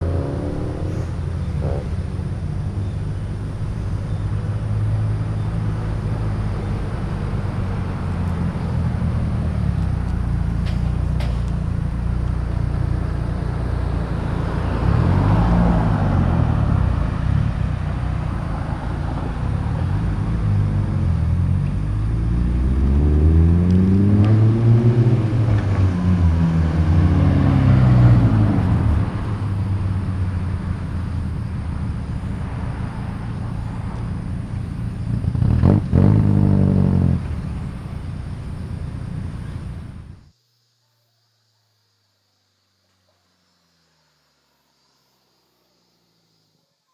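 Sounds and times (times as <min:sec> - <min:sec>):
car engines revving and passing: 0:00.0 - 0:40.3.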